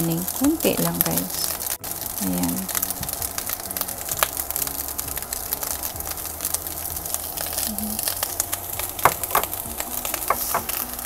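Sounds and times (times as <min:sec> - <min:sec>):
rice sizzling and crackling: 0:00.0 - 0:11.0.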